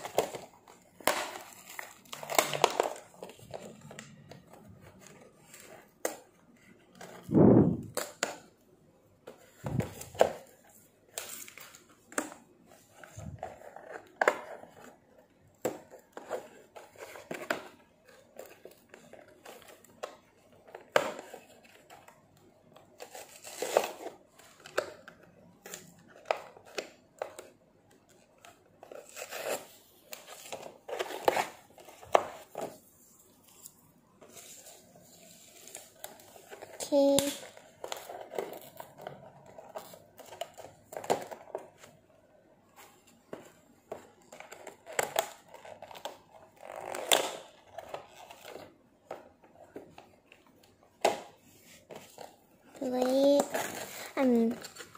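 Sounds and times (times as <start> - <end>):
plastic and card crinkling and tearing: 0.0 - 8.6, 9.3 - 54.9.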